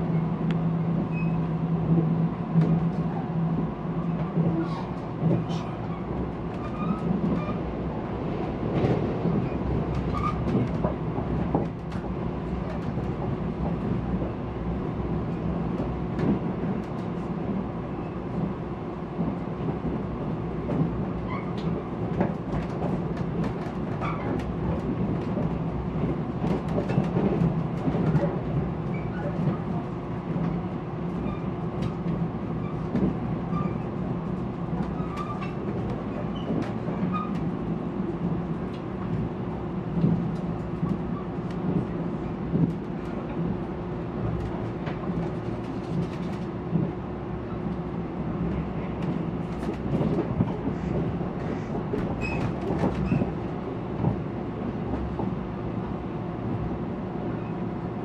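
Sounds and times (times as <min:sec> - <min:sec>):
low rumble of train wheels: 0:00.0 - 0:58.0.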